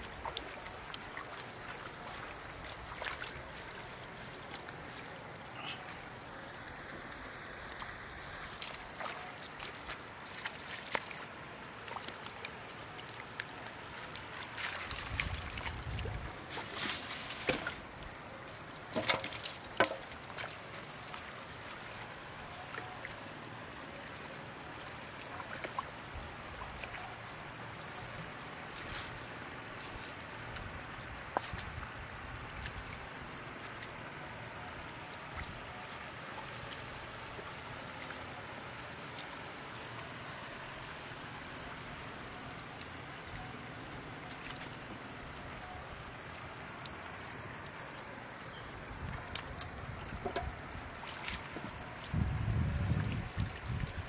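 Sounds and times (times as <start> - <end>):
water splashes and knocks: 0.0 - 5.4, 6.2 - 23.2, 24.0 - 34.0, 35.0 - 39.9, 44.2 - 45.4, 46.6 - 54.0
floodwater sloshing and trickling: 0.0 - 54.0.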